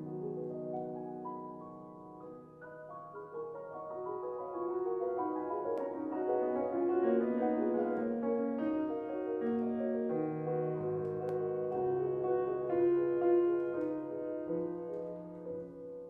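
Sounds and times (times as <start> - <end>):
solo classical piano: 0.0 - 16.0.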